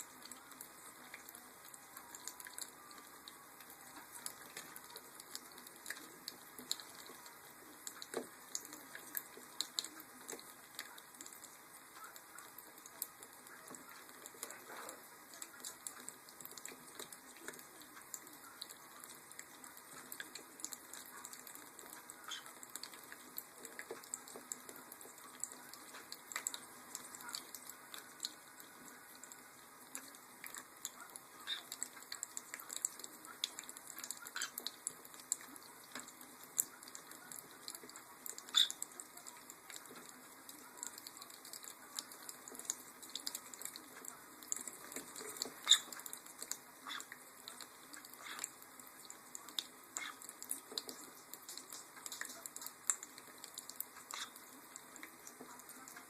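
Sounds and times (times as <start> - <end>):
water dripping: 0.0 - 56.0.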